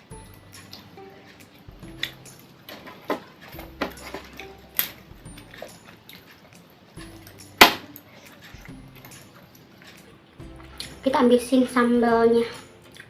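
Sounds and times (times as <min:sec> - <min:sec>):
crunching and chewing fried food: 0:00.0 - 0:11.0, 0:12.4 - 0:13.0.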